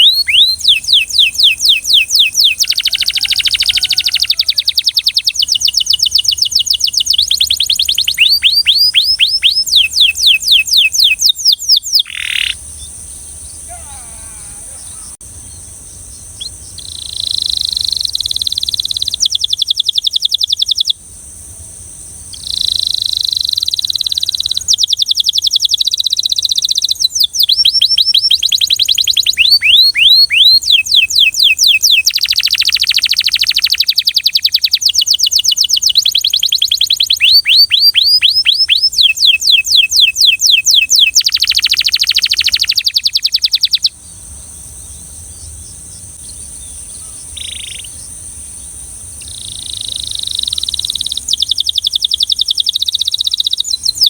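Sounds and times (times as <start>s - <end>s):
canary singing trills: 0.0s - 21.6s, 22.3s - 54.0s.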